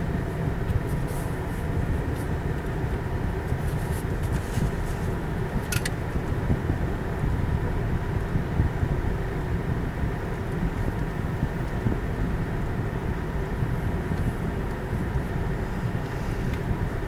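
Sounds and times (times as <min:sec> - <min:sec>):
car rumbling through a tunnel: 0:00.0 - 0:17.0.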